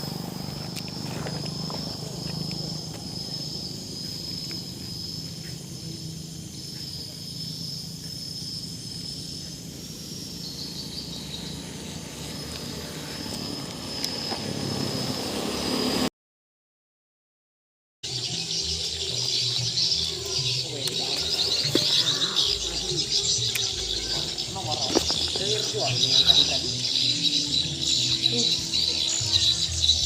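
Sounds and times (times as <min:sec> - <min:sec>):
insects buzzing: 0:00.0 - 0:16.1, 0:18.1 - 0:30.0.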